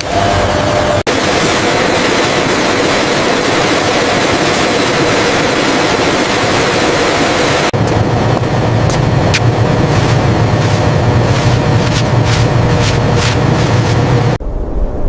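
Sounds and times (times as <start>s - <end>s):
factory machinery noise: 0.0s - 14.4s.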